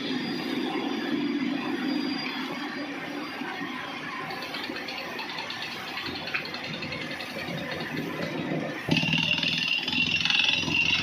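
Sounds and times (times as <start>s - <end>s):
air drilling rig engine: 0.0s - 11.0s.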